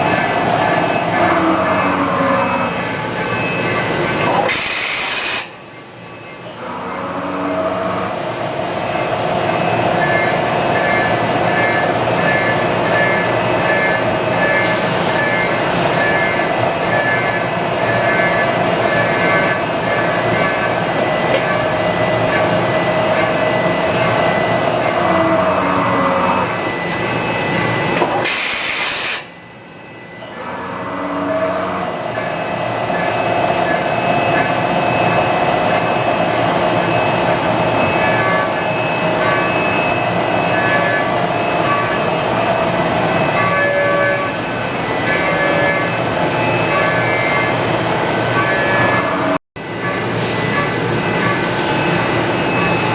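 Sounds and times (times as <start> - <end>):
machining center mechanical whine: 0.0 - 52.9.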